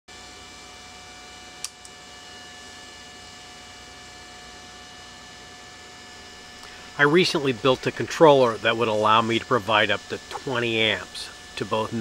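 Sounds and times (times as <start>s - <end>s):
electrical hum with high whine: 0.1s - 12.0s.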